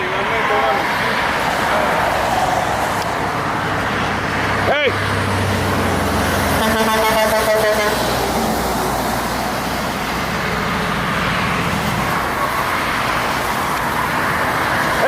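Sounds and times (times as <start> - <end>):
diesel truck engine passing: 0.0 - 15.0
road traffic noise: 0.0 - 15.0.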